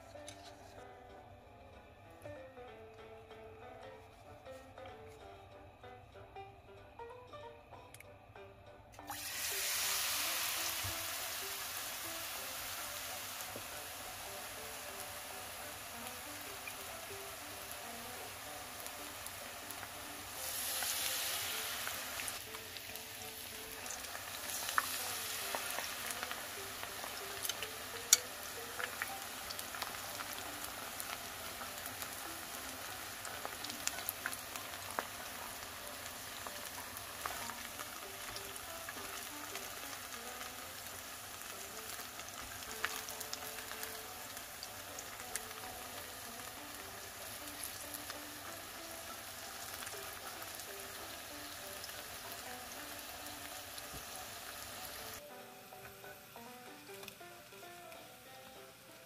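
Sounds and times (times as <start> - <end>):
battered food deep-frying in oil: 9.0 - 59.0.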